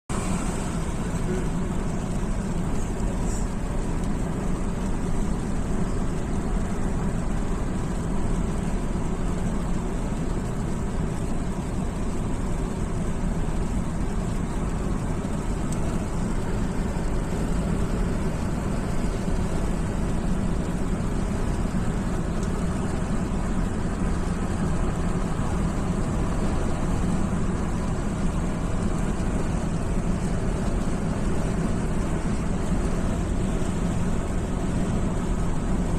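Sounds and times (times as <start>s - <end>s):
car driving on wet motorway: 0.1s - 35.9s.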